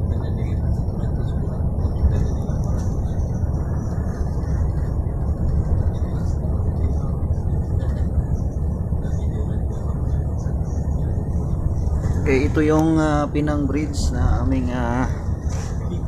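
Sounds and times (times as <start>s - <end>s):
bus engine and tyres rumbling: 0.0s - 16.0s.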